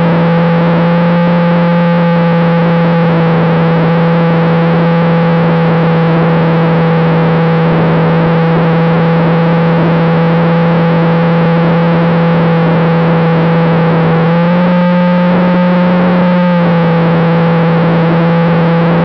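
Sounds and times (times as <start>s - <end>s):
model aircraft motor hum: 0.0s - 19.0s.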